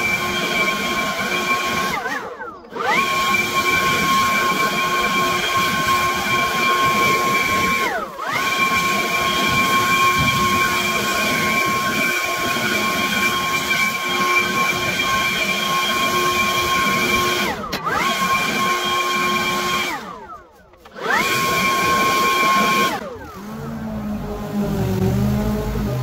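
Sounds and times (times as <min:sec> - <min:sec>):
leaf blower whining: 0:00.0 - 0:26.0.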